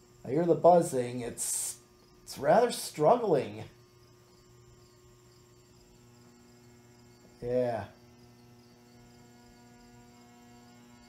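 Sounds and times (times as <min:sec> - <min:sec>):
ceiling fan motor buzzing: 0:00.0 - 0:11.0.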